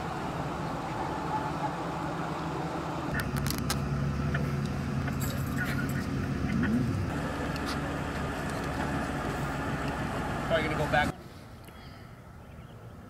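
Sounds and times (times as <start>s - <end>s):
vehicle engine idling: 0.0s - 11.6s.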